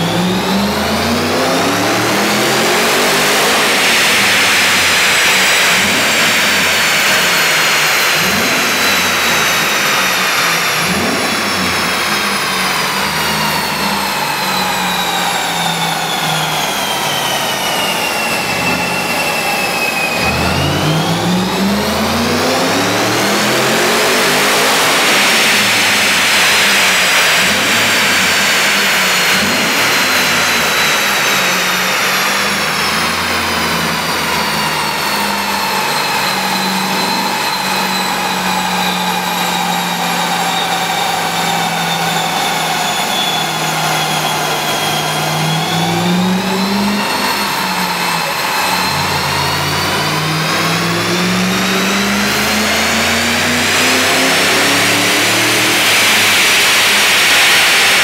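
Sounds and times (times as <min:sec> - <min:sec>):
engine revving on dyno: 0:00.0 - 0:58.0
supercharger whine: 0:00.0 - 0:58.0.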